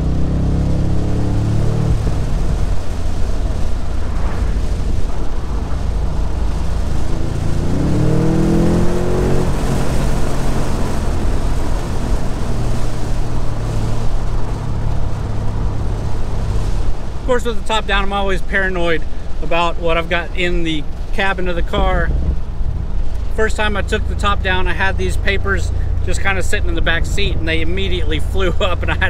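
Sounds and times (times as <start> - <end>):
wind rush: 0.0 - 24.7
car engine and exhaust revving: 0.0 - 29.0.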